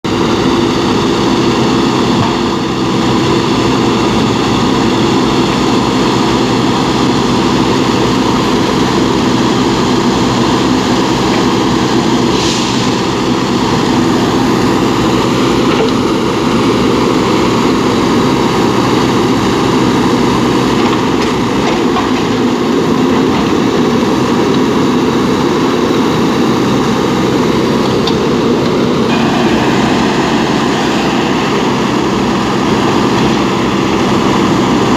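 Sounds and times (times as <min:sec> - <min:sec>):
diesel engine droning: 0:00.0 - 0:34.9.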